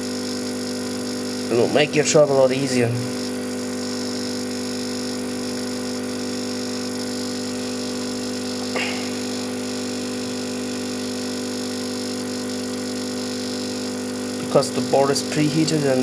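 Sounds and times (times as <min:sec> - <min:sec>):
hot air station humming: 0:00.0 - 0:16.0
blower air hiss: 0:00.6 - 0:16.0.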